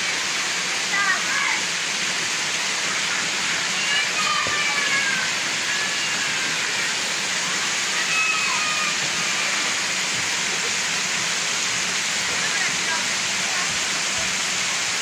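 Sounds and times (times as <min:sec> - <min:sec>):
water pouring from fountains: 0:00.0 - 0:15.0.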